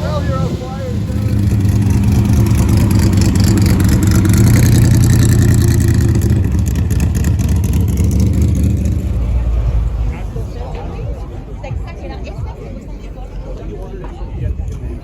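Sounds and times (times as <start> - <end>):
vehicle engine running loudly: 0.0 - 13.2.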